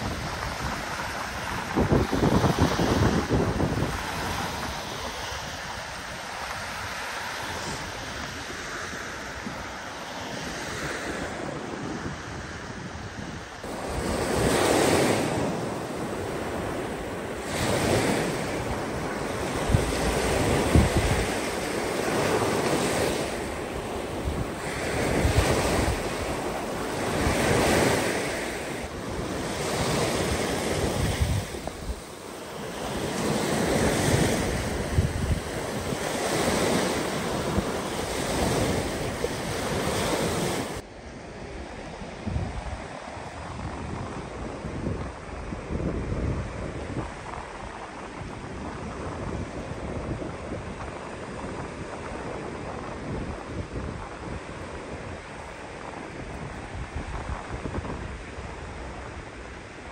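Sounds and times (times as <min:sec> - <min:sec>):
waves breaking on beach: 0:00.0 - 0:59.9
wind buffeting microphone: 0:00.0 - 0:59.9.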